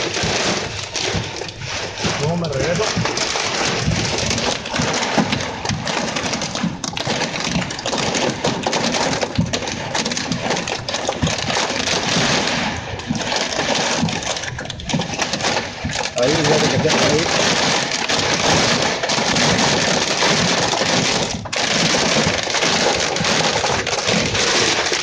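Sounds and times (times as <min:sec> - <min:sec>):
hail clattering on vehicle roof: 0:00.0 - 0:25.0
rain wash: 0:00.0 - 0:25.0.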